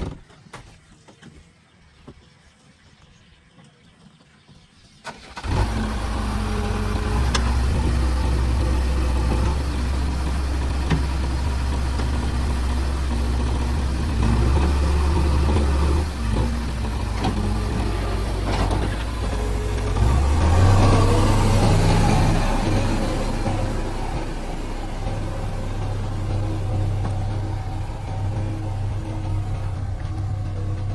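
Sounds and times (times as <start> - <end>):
diesel engine starting and running: 5.0 - 30.9.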